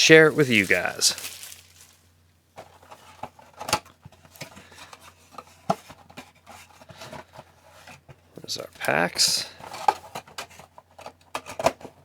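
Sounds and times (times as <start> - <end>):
card packs clicking and scraping: 0.1 - 2.0, 2.6 - 12.0.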